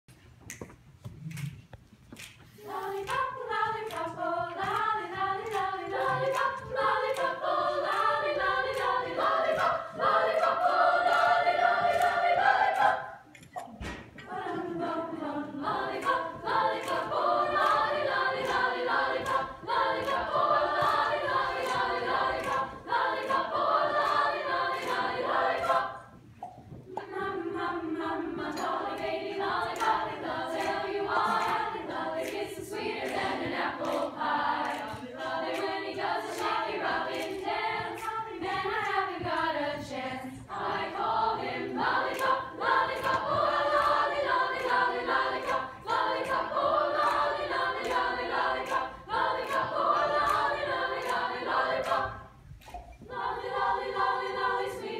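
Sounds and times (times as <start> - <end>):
children's choir singing a cappella: 2.4 - 54.9.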